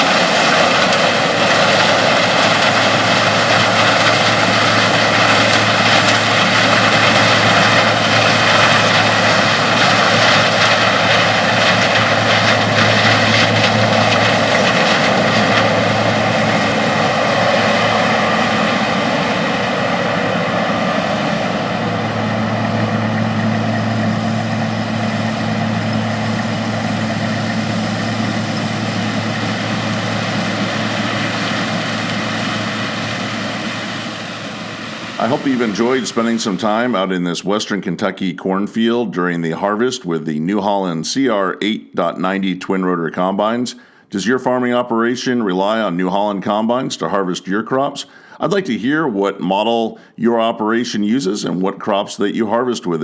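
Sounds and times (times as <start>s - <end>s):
combine harvester running: 0.0s - 37.7s, 43.5s - 53.0s.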